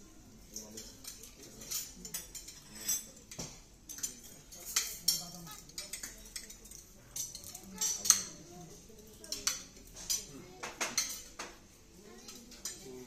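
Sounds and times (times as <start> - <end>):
cutlery clinking on plates: 0.4 - 13.0.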